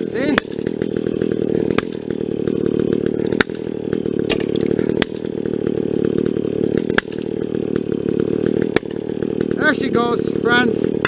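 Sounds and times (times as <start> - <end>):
chainsaw cutting tree trunk: 0.0 - 11.0.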